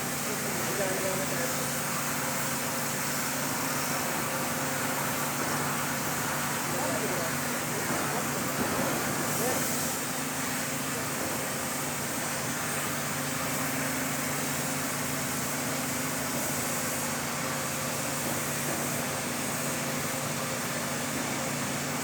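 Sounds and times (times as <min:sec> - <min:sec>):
mechanical running hum: 0:00.0 - 0:22.0.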